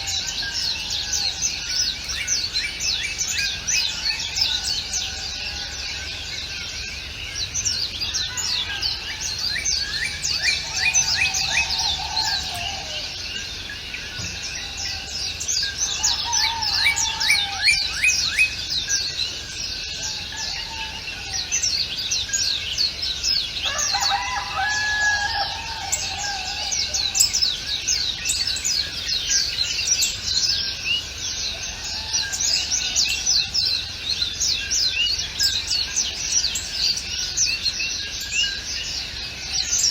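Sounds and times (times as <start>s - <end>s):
lower warbling bird phrases: 0.0s - 39.9s
small birds chirping: 0.0s - 39.9s.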